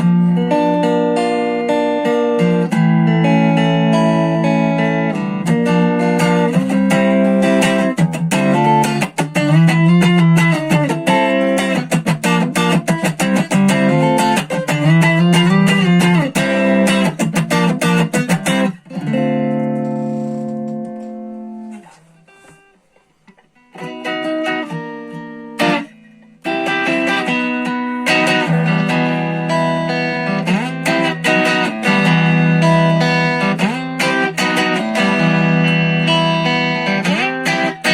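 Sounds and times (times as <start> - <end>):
clean electric guitar playing: 0.0 - 37.9.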